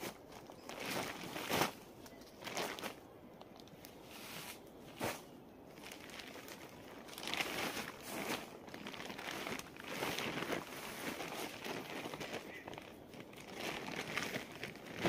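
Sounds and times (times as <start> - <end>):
plastic tarp crinkling: 0.0 - 3.0, 3.6 - 15.0.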